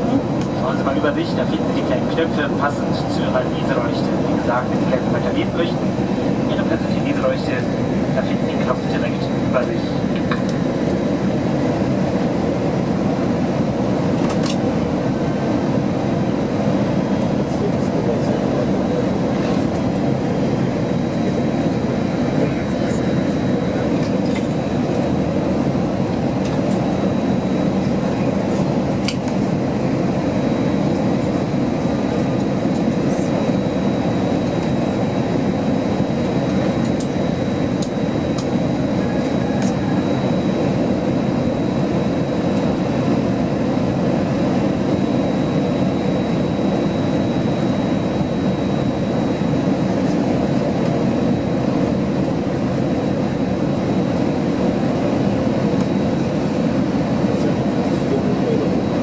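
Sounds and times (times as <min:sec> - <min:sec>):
airflow and engine noise in cabin: 0:00.0 - 0:59.0.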